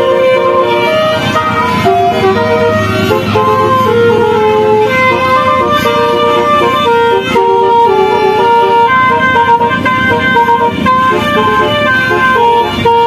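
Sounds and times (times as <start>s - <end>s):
musical vehicle horn playing tune: 0.0s - 13.0s.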